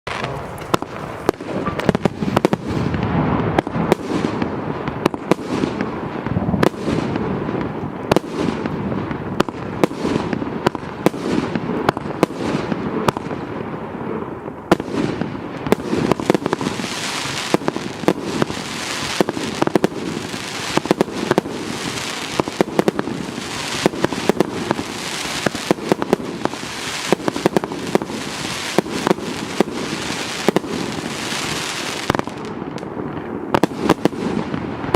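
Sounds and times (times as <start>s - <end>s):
fireworks banging: 0.1s - 34.9s.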